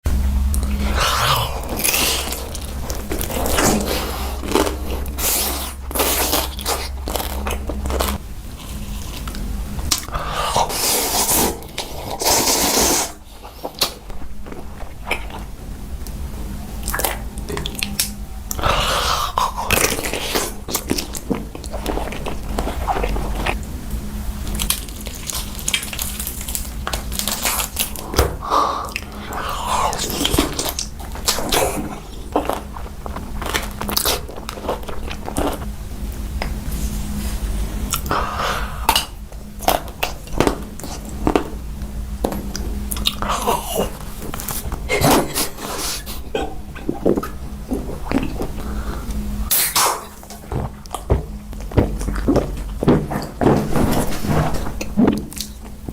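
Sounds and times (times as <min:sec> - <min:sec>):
low hum: 0:00.0 - 0:55.9
wet chewing: 0:00.2 - 0:23.7, 0:24.3 - 0:37.2, 0:37.8 - 0:55.9.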